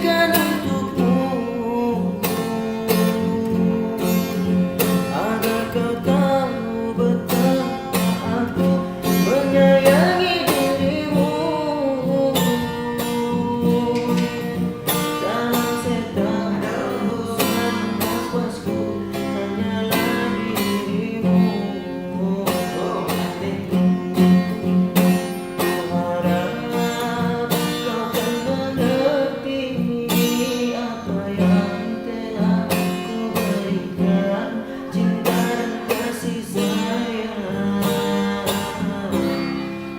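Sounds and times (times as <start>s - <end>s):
person singing a melody: 0.0s - 39.9s
strummed guitar: 0.0s - 39.9s.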